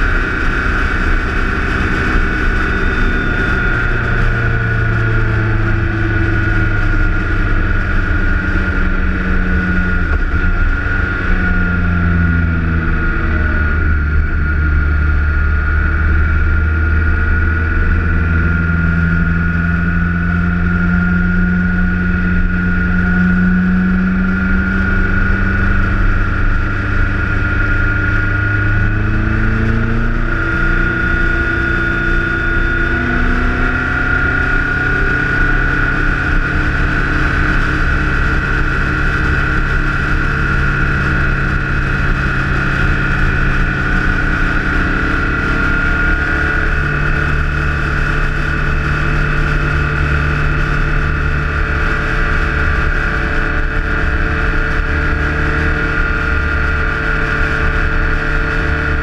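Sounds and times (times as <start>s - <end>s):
motorcycle engine running: 0.0s - 59.0s
steady high whine: 0.0s - 59.0s
wind and road noise: 0.0s - 59.0s.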